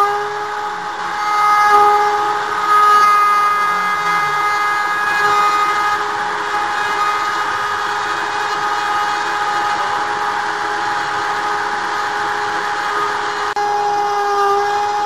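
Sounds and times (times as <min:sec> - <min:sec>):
router bit cutting hiss: 0:00.0 - 0:15.0
router spindle whine: 0:00.0 - 0:15.0.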